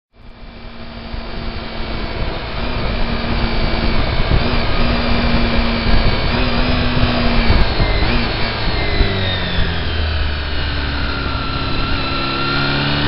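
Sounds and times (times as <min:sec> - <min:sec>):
low engine hum: 0:00.1 - 0:13.0
tyre and road noise: 0:00.2 - 0:13.0.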